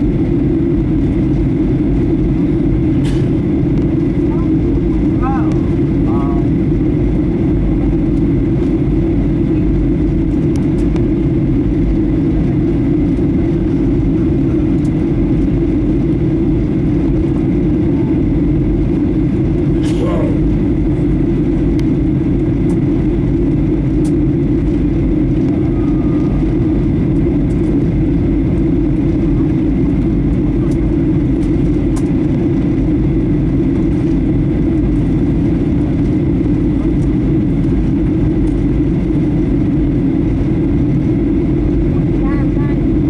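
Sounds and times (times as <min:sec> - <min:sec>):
airliner cabin roar: 0:00.0 - 0:43.0
faint steady whine: 0:00.0 - 0:43.0.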